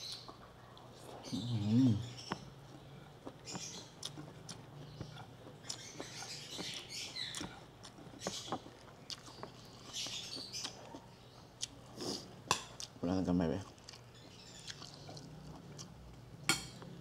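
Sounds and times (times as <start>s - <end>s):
person chewing with wet clicks: 2.1s - 17.0s.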